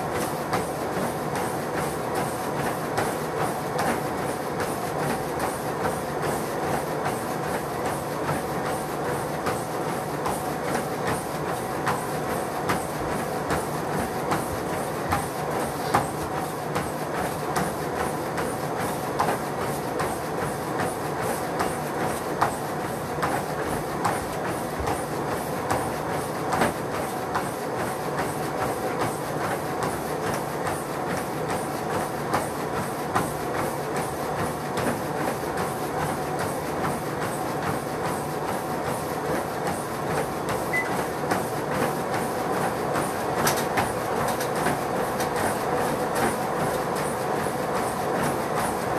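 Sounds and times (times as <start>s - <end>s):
footfalls on treadmill belt: 0.0s - 48.9s
treadmill motor and belt whine: 0.0s - 48.9s.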